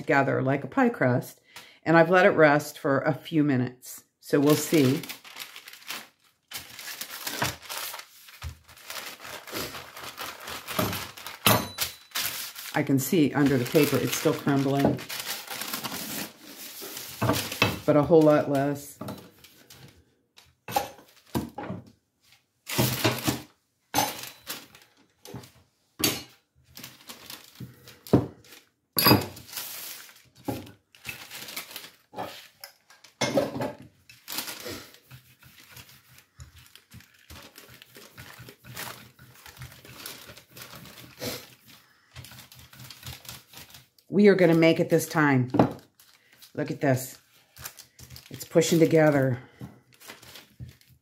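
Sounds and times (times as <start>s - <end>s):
parchment paper crinkling: 4.3s - 21.4s, 22.2s - 25.6s, 26.6s - 28.8s, 29.4s - 33.2s, 33.9s - 51.0s.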